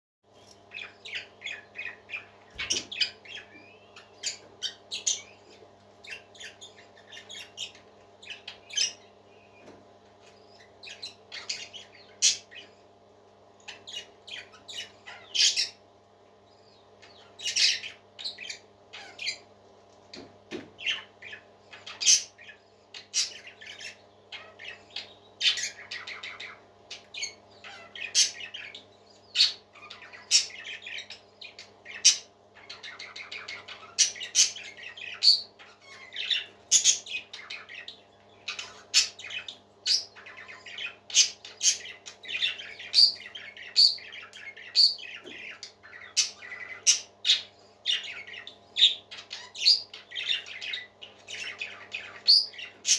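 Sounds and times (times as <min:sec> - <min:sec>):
faint low hum: 0:00.3 - 0:52.9
parakeets chirping and squawking: 0:00.4 - 0:52.9.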